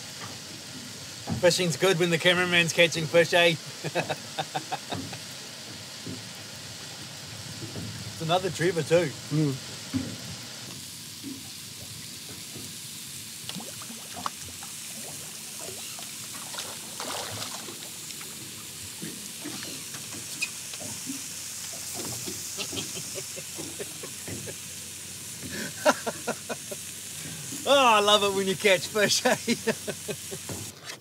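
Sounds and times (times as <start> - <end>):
food sizzling in a pan: 0.0 - 30.7.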